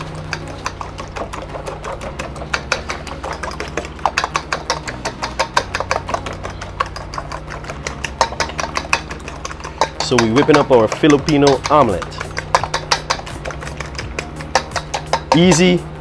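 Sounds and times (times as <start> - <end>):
steady low hum: 0.0 - 16.0
utensil clicking against metal bowl: 0.0 - 16.0.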